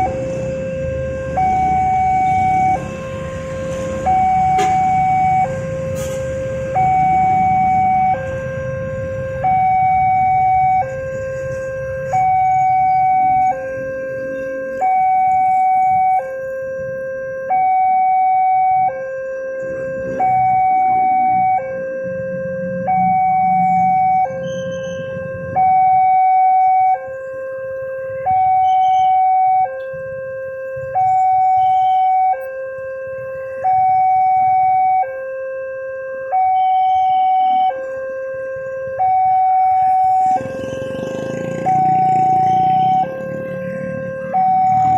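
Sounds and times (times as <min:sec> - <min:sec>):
two-tone crossing alarm: 0:00.0 - 0:44.9.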